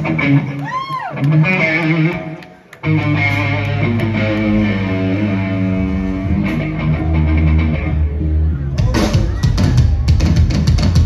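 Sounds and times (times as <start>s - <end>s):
electric guitar playing: 0.0s - 9.7s.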